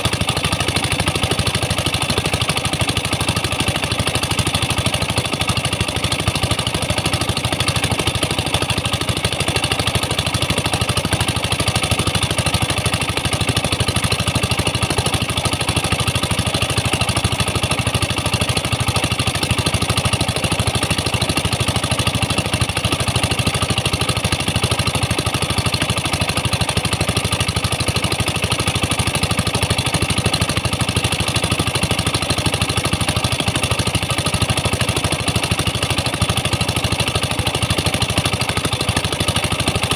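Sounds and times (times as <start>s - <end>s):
engine-driven water pump running: 0.0s - 39.9s.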